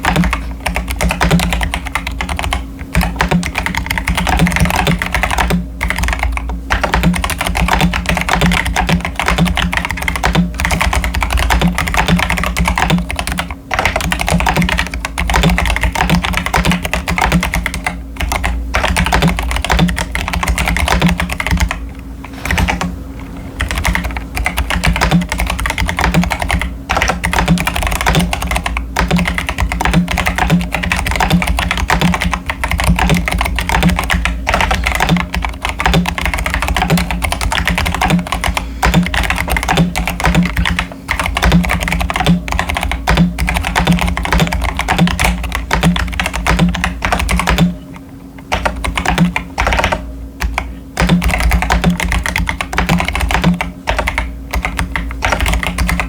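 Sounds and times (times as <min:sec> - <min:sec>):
mechanical keyboard typing: 0:00.0 - 0:22.9, 0:23.5 - 0:56.0.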